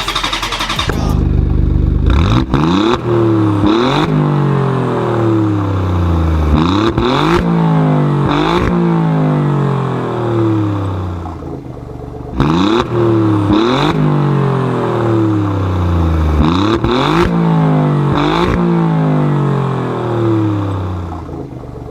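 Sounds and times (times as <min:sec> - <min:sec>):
car engine revving: 0:00.0 - 0:21.9
exhaust cracks: 0:00.0 - 0:21.9.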